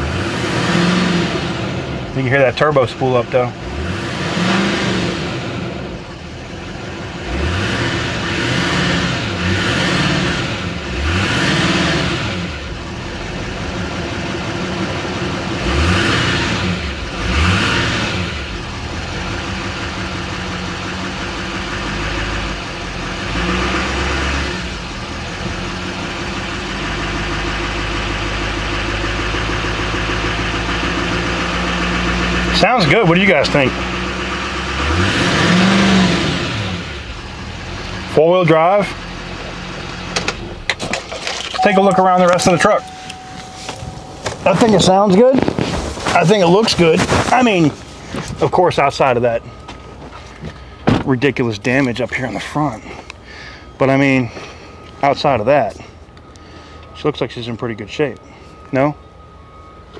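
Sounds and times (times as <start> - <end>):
truck engine revving and idling: 0.0 - 59.9.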